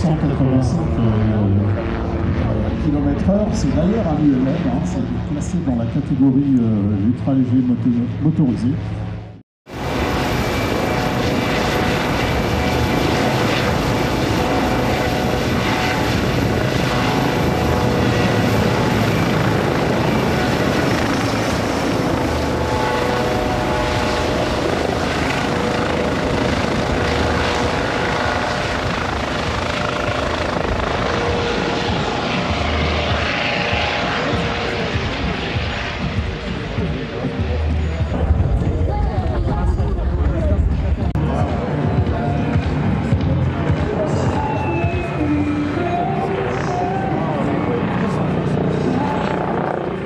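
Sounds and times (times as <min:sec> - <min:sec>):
helicopter rotor and engine noise: 0:00.0 - 0:50.0
high turbine whine: 0:00.0 - 0:50.0.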